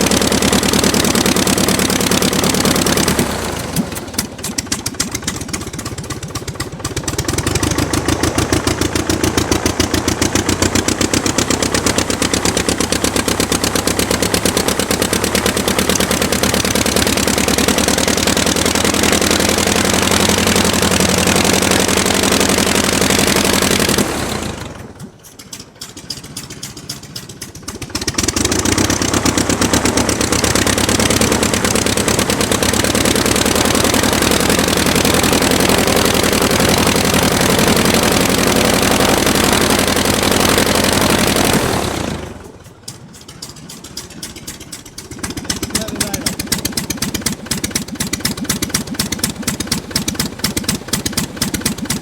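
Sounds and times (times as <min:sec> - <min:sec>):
aircraft engine running: 0:00.0 - 0:52.0.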